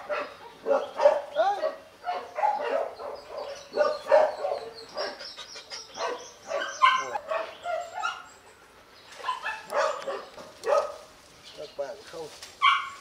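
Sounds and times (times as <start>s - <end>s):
dog barking and yelping: 0.0s - 8.5s, 9.2s - 11.0s, 12.6s - 13.0s.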